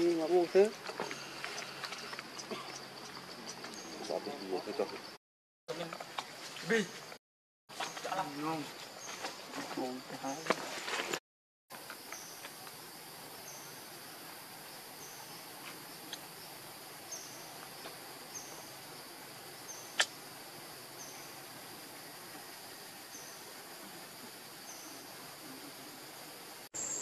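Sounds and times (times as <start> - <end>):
high insect drone: 0.0 - 7.2, 7.8 - 11.0, 11.7 - 27.0.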